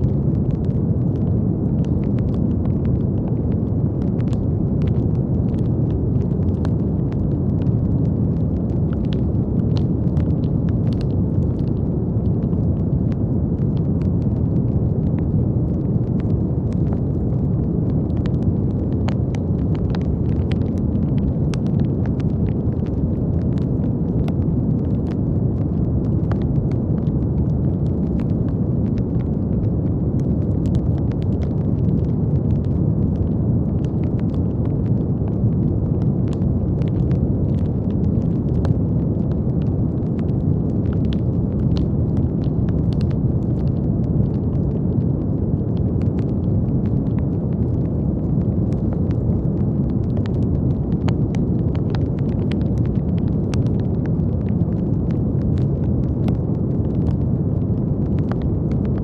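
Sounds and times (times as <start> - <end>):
deep brown noise rush: 0.0 - 59.0.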